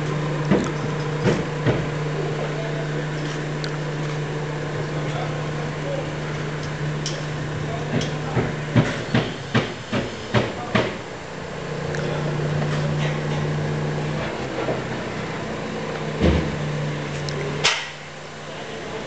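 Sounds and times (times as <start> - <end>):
crane engine humming: 0.0 - 19.0.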